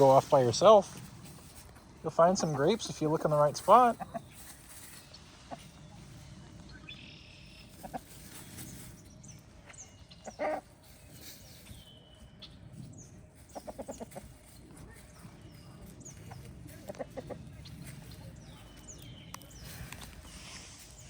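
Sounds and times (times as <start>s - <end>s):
chickens clucking: 0.0s - 6.8s, 7.4s - 21.0s.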